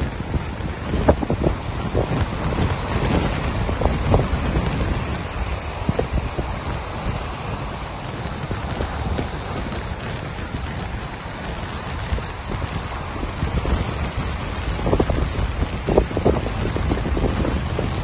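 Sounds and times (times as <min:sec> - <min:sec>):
surf breaking on a beach: 0:00.0 - 0:18.0
wind rumbling on microphone: 0:00.0 - 0:18.0.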